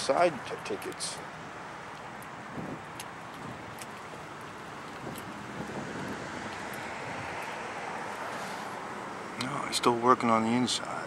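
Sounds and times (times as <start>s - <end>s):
road traffic: 0.0s - 11.0s
wind: 0.0s - 11.0s.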